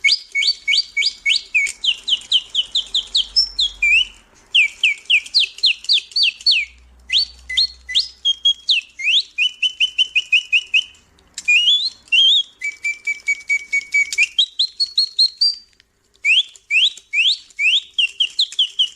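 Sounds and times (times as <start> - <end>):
mechanical bird whistling birdsong: 0.0 - 18.9.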